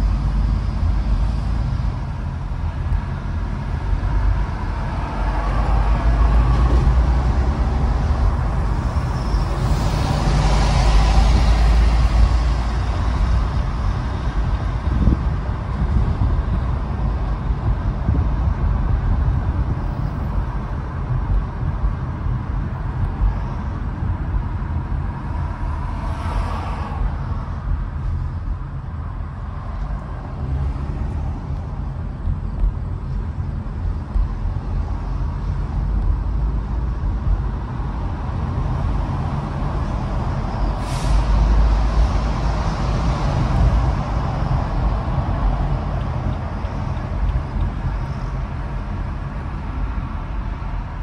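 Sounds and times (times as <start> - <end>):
car tyres and engine rumble: 0.0 - 51.0.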